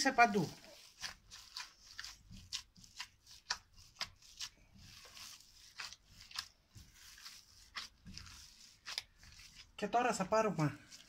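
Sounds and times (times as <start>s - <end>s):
hand kneading raw minced meat: 0.0s - 11.0s.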